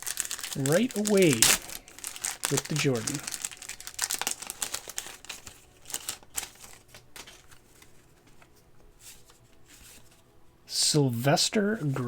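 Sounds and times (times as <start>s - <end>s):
card wrapper crinkling and rustling: 0.0s - 10.2s.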